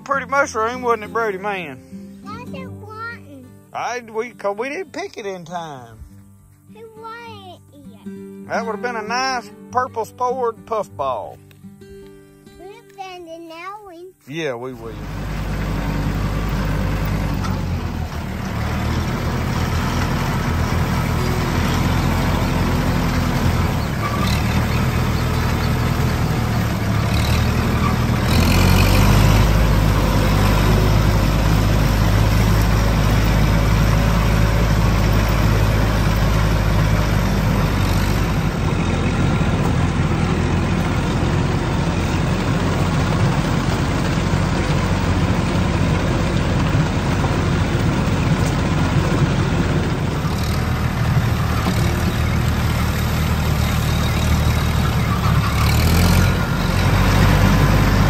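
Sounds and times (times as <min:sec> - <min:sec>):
vehicle engine running: 0:00.0 - 0:07.4, 0:14.2 - 0:58.0.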